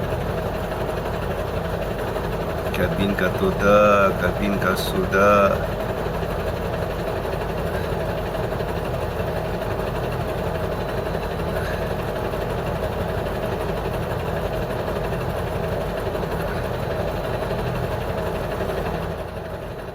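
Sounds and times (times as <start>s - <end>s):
truck engine running: 0.0s - 19.9s.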